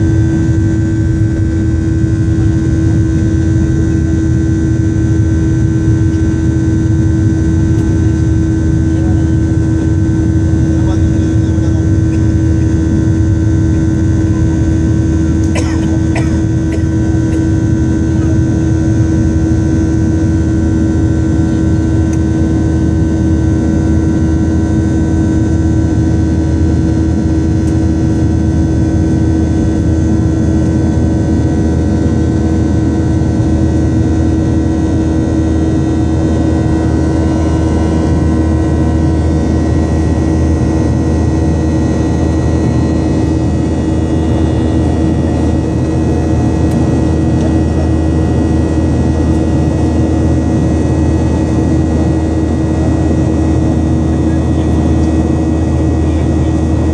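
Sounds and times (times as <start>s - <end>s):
constant humming tone: 0.0s - 56.9s
jet engine drone in cabin: 0.0s - 56.9s.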